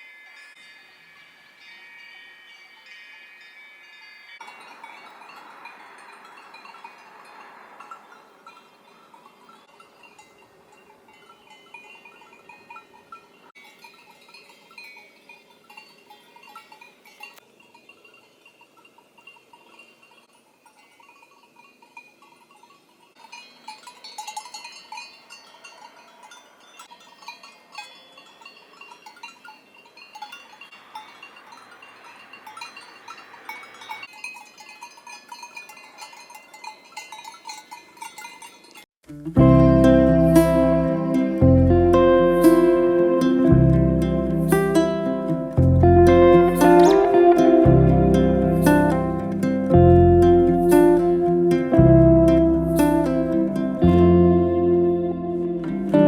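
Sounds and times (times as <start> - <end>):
cowbells clanking: 0.0 - 56.0.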